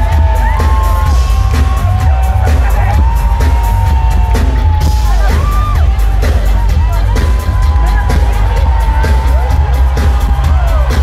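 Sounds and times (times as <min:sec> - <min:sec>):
live electronic pop music: 0:00.0 - 0:11.0.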